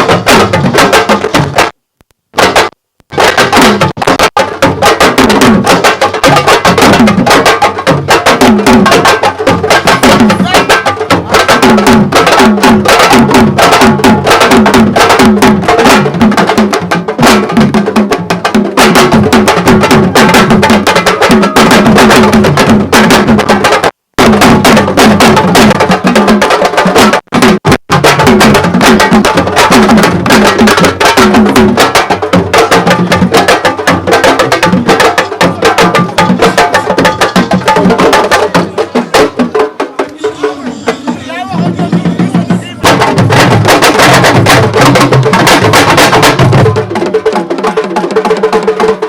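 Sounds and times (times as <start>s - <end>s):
fast drumming music: 0.0s - 49.0s.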